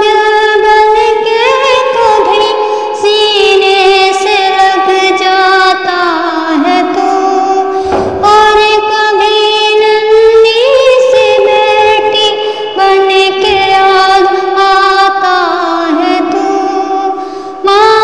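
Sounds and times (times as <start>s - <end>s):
woman singing with vibrato: 0.0s - 18.0s.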